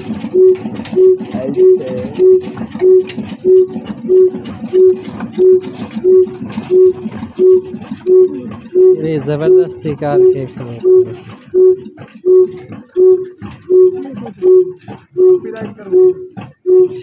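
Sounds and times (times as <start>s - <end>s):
slow diesel engine running: 0.0s - 17.0s.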